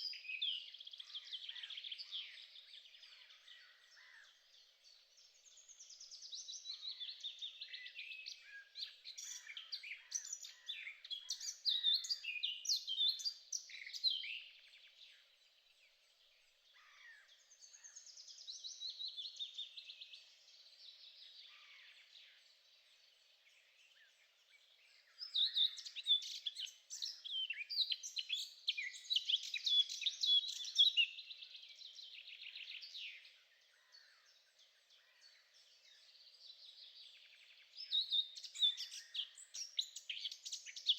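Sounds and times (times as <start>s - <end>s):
songbird singing chirps and trills: 0.0s - 40.9s.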